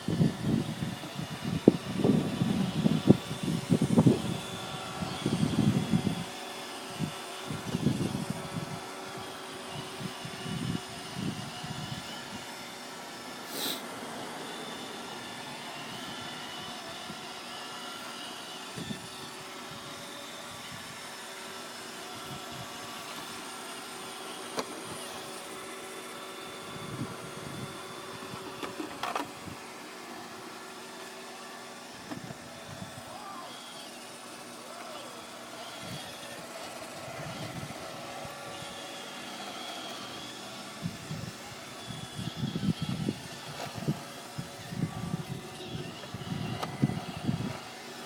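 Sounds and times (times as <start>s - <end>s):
robot vacuum motor whirring: 0.0s - 48.0s.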